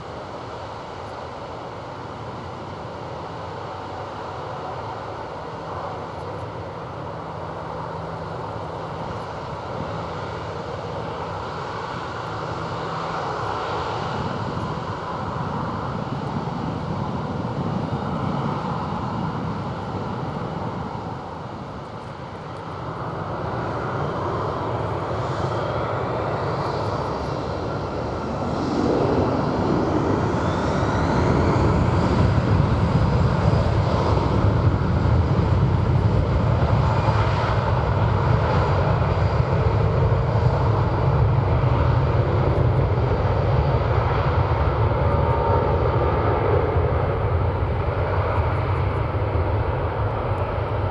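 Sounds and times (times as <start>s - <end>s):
jet engines running: 0.0s - 50.9s
rising engine whine: 6.8s - 50.9s.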